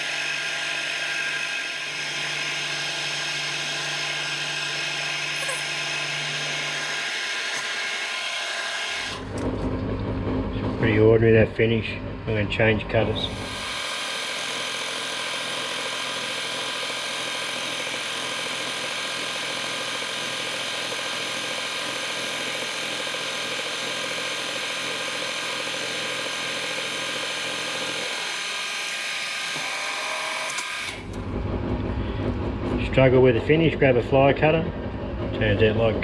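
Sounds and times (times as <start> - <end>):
milling machine cutting metal: 0.0 - 10.0, 12.0 - 36.0.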